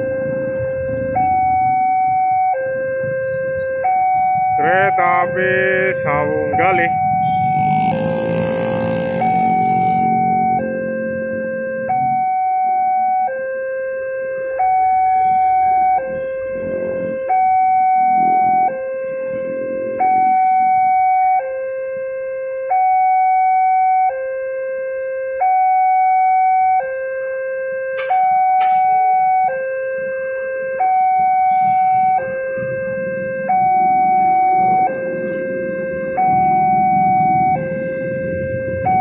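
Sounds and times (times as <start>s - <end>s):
level crossing warning alarm: 0.0s - 39.0s.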